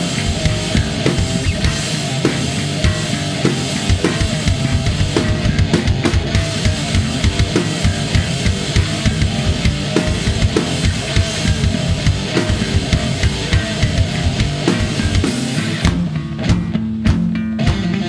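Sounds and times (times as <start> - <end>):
drum kit beat: 0.0 - 18.0
rock band playing loudly: 0.0 - 18.0.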